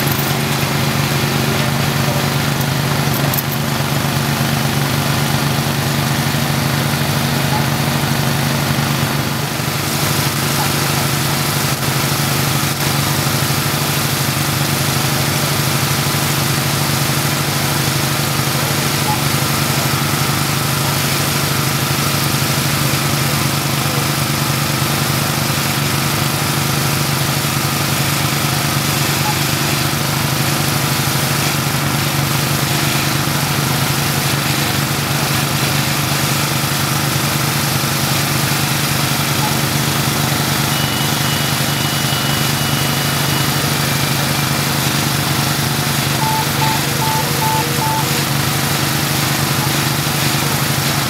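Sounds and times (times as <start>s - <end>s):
power unit engine droning: 0.0s - 51.0s.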